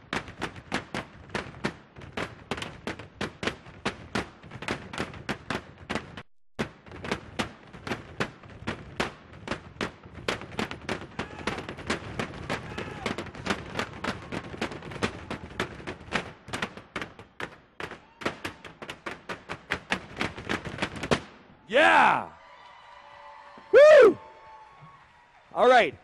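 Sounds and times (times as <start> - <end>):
percussion poles striking stage floor: 0.0 - 21.4.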